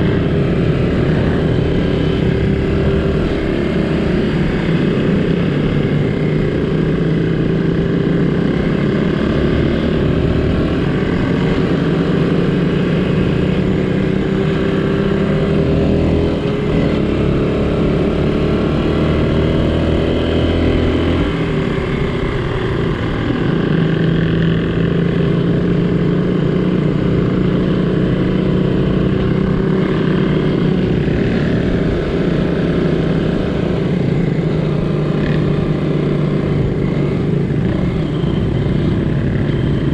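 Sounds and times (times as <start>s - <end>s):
small motorcycle engine running: 0.0s - 39.9s.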